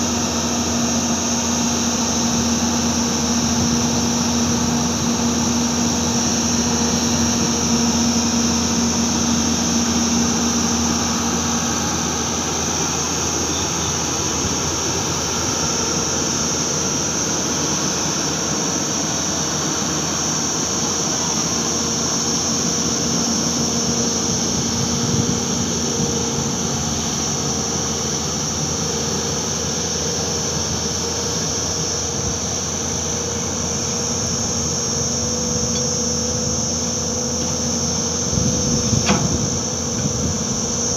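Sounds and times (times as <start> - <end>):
excavator diesel engine running: 0.0 - 40.9
high-pitched whine: 0.0 - 40.9.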